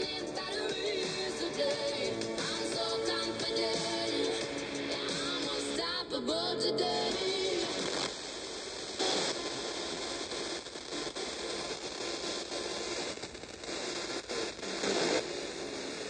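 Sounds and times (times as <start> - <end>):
radio static hiss and crackle: 0.0 - 5.8, 6.8 - 16.0.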